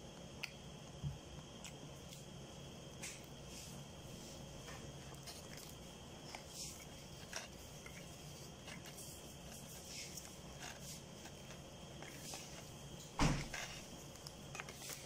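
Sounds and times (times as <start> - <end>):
chewing: 0.2 - 15.0.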